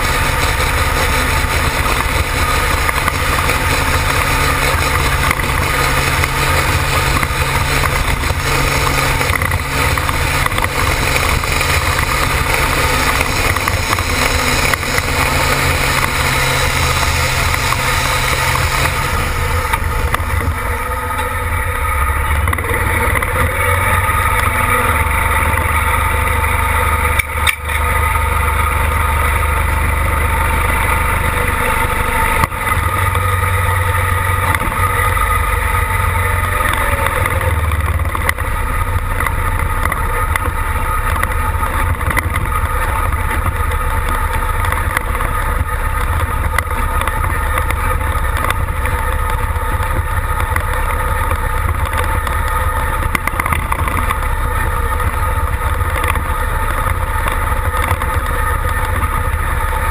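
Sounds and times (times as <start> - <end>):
tractor engine running hard: 0.0 - 59.9.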